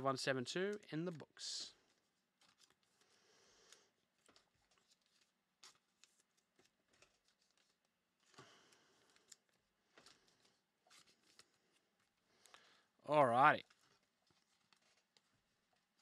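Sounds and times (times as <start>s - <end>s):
soft packaging rustles: 0.5s - 16.0s.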